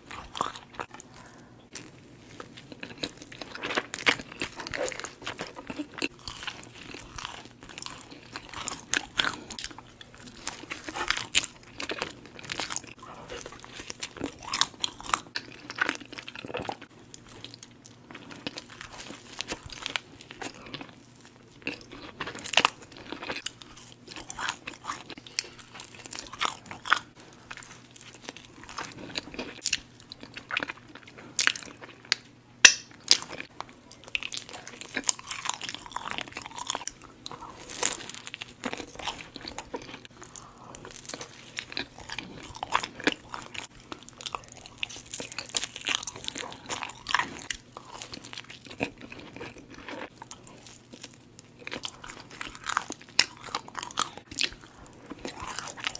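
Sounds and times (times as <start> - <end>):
chewing with mouth clicks: 0.0 - 55.9.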